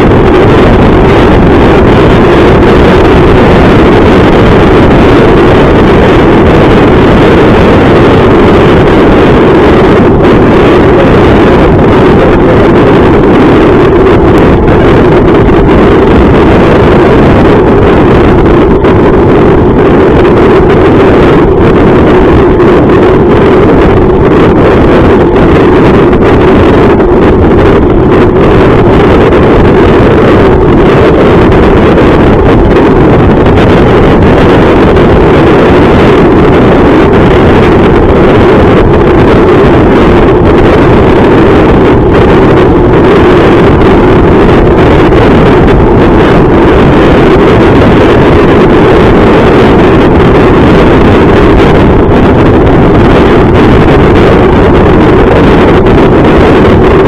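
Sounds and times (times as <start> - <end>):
rush of the road: 0.0 - 57.0
wind roar on microphone: 0.0 - 57.0.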